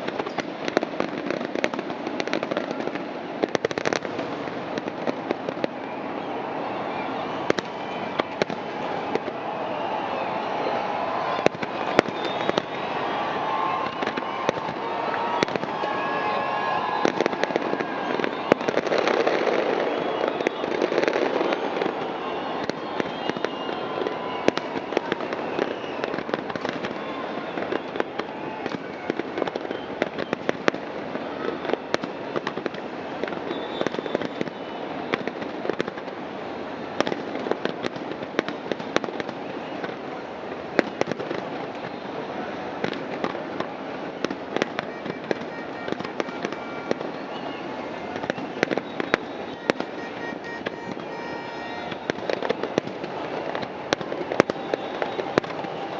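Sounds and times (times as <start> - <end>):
fireworks bangs and crackling: 0.0 - 55.9.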